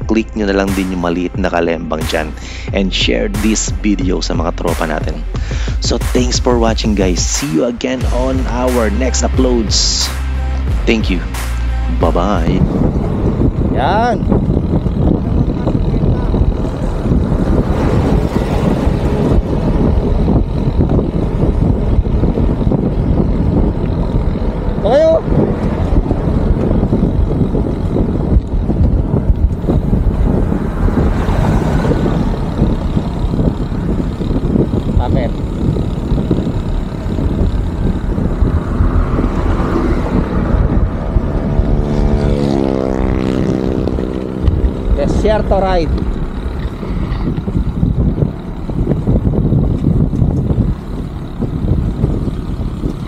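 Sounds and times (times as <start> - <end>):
road rumble: 0.0 - 53.0
vehicle engine passing: 0.0 - 53.0
wind buffeting microphone: 0.0 - 53.0.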